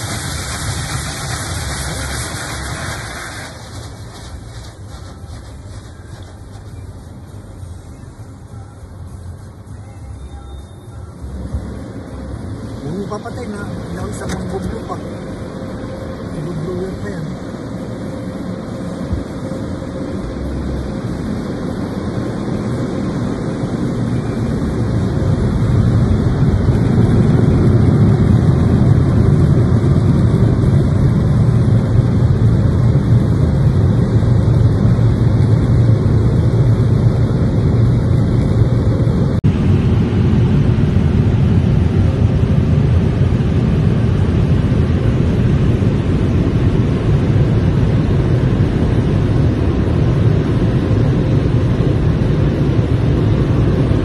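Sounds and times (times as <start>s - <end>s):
car wash dryer blowers: 0.0s - 9.9s, 11.2s - 54.0s.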